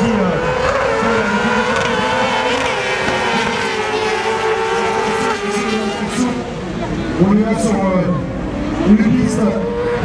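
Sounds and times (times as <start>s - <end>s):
racing kart engines at high revs: 0.0s - 10.0s.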